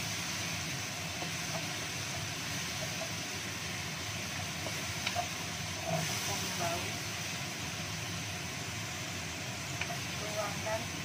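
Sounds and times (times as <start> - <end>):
spice paste sizzling in hot oil: 0.0 - 11.0.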